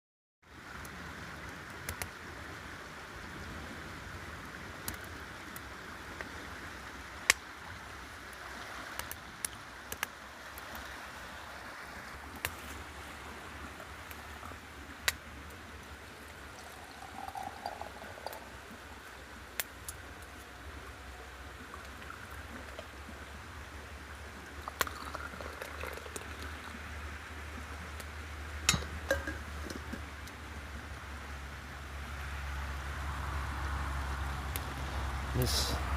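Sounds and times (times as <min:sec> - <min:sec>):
running water rushing: 0:00.5 - 0:35.9.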